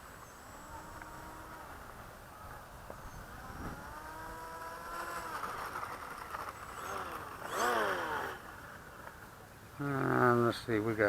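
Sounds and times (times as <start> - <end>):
model plane electric motor whining: 0.0 - 8.9.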